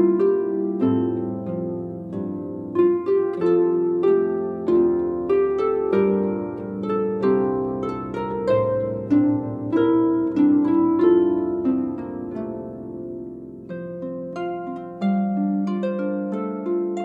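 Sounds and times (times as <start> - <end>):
harp melody: 0.0 - 17.0.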